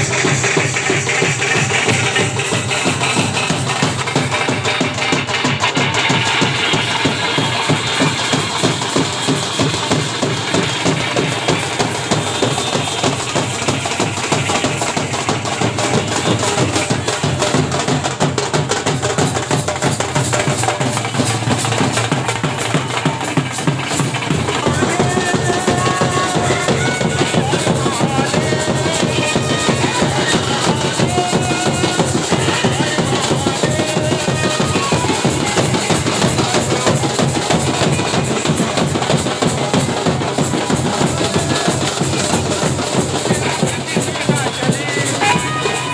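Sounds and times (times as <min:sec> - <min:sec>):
heavy fast drumming: 0:00.0 - 0:45.9.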